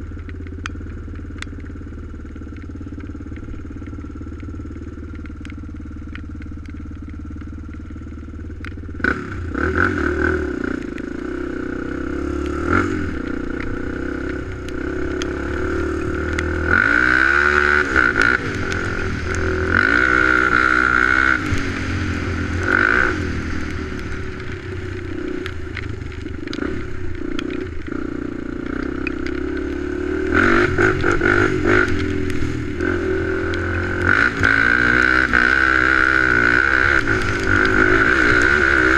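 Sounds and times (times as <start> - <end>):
atv engine idling and revving: 0.0 - 38.9.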